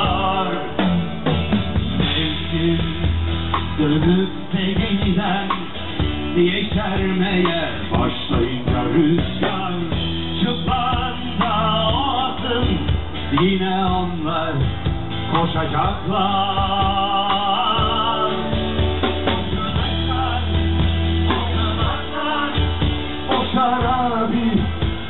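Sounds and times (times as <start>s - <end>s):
drum kit beat: 0.0s - 25.0s
live band music: 0.0s - 25.0s.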